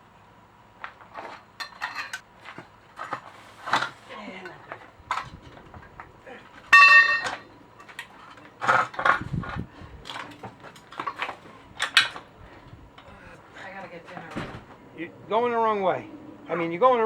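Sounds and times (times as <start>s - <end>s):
tools clinking on brake parts: 0.8s - 14.6s.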